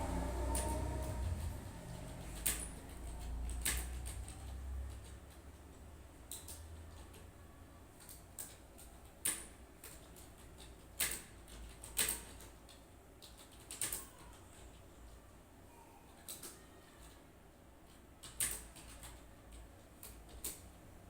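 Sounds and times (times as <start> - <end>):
computer keyboard clicks: 0.5 - 5.6, 6.2 - 7.4, 8.0 - 14.8, 16.2 - 17.2, 17.9 - 20.8.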